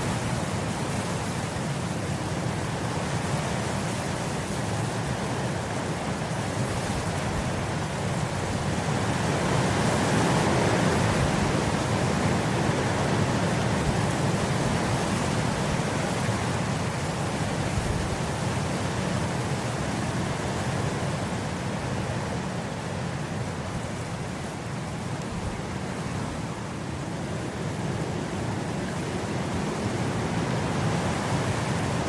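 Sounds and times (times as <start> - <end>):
wind blowing through grass: 0.0 - 32.0.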